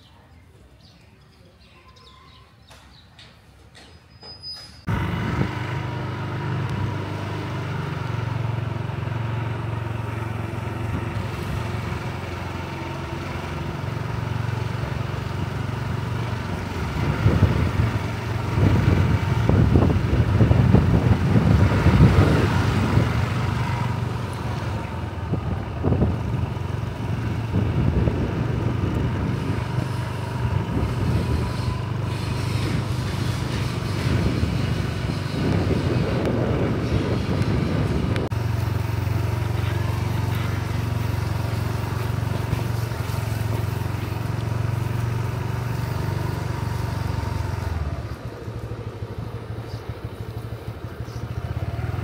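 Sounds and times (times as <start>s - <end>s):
vehicle engine running: 4.9s - 52.0s.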